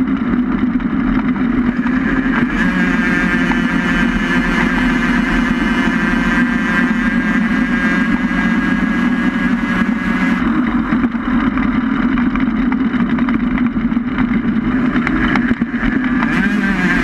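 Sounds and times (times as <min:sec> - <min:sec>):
racing vehicle engine: 0:00.0 - 0:17.0
road noise: 0:00.0 - 0:17.0.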